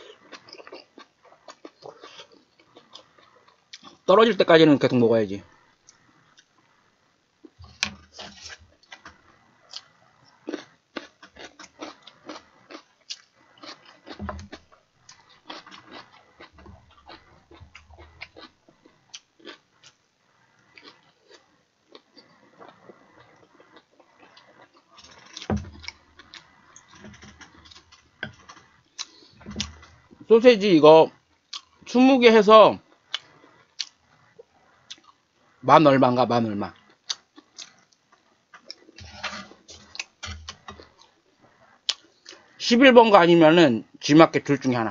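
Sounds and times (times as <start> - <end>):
person chewing food: 0.0 - 4.1, 5.4 - 6.8, 7.4 - 30.3, 31.1 - 32.0, 32.8 - 35.6, 36.7 - 42.6.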